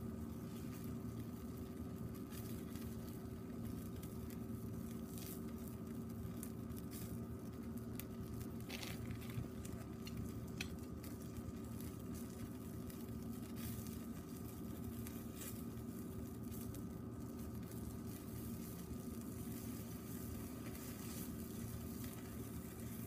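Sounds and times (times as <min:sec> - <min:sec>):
fat crackling and popping: 0:00.0 - 0:23.0
meat sizzling on a grill: 0:00.0 - 0:23.0
steady low hum: 0:00.0 - 0:23.0.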